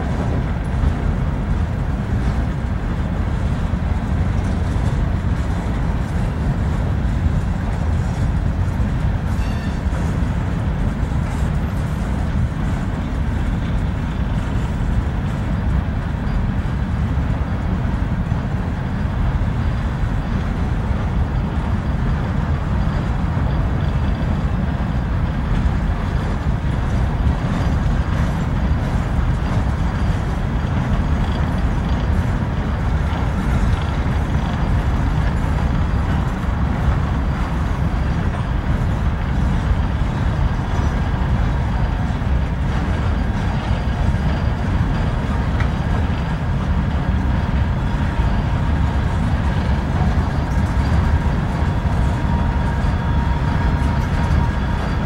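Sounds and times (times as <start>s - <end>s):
train cars rolling past: 0.0s - 55.0s.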